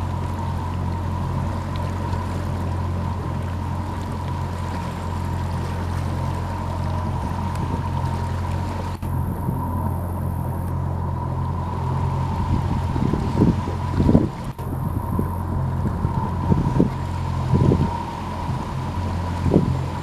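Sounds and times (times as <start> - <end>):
boat engine humming: 0.0 - 20.0
water rushing: 0.0 - 20.0.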